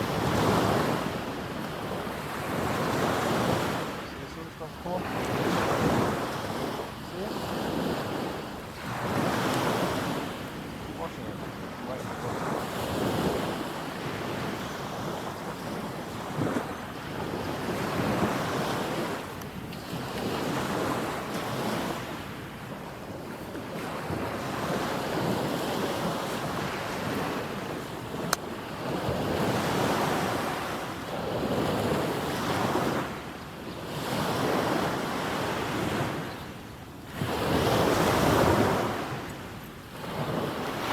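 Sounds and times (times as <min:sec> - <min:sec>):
small waves breaking on beach: 0:00.0 - 0:40.9.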